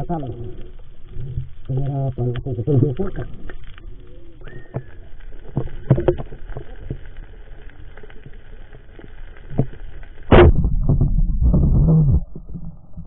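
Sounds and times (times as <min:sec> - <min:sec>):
muffled underwater hiss: 0:00.0 - 0:13.0.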